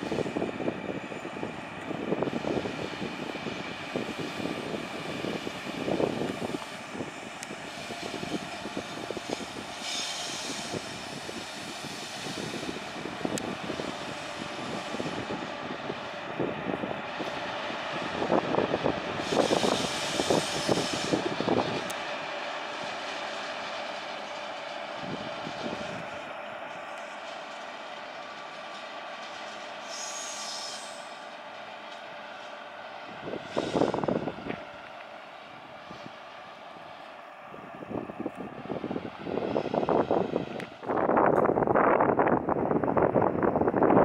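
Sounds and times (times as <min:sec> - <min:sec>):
electric locomotive drone: 0:00.0 - 0:44.0.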